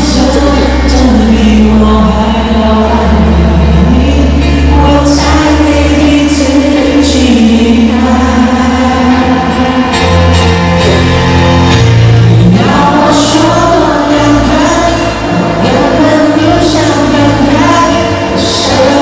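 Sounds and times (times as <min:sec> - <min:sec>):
man singing a slow ballad: 0:00.0 - 0:10.4, 0:12.3 - 0:19.0.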